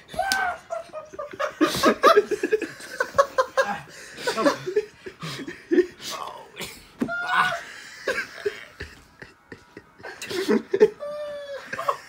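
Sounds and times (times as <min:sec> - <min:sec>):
people laughing: 0:00.3 - 0:06.1, 0:07.3 - 0:12.0.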